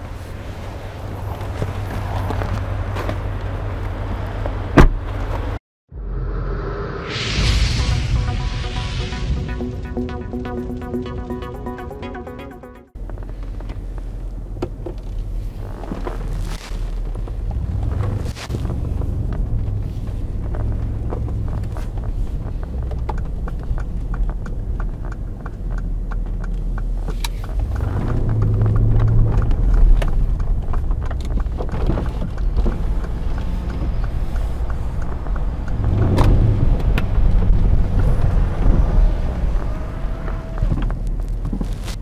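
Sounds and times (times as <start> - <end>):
car engine rumble: 0.0 - 7.5, 12.9 - 42.0.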